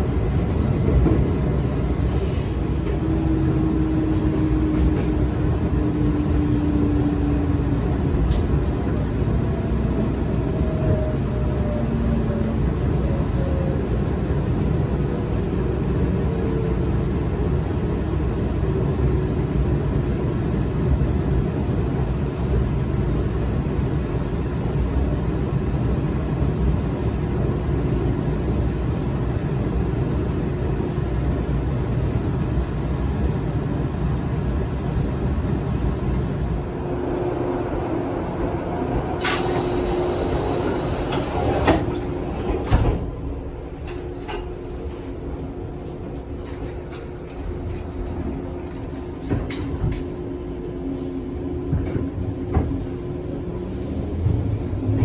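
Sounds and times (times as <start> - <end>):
train wheels and motors rumbling: 0.0 - 55.0.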